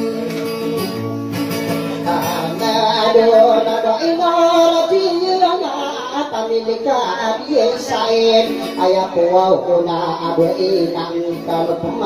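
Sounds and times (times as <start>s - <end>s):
guitar: 0.0s - 12.0s
man singing: 0.0s - 12.0s.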